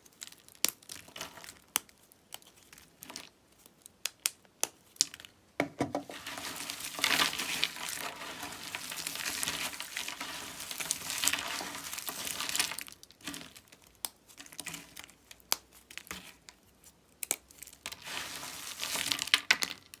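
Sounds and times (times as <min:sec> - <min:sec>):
soap crackling and crumbling: 0:00.0 - 0:20.0.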